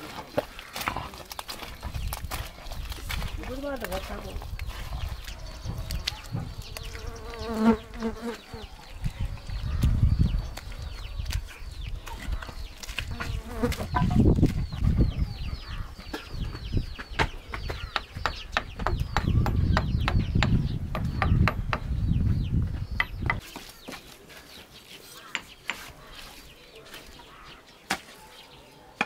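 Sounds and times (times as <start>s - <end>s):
chickens peeping: 0.4s - 28.6s.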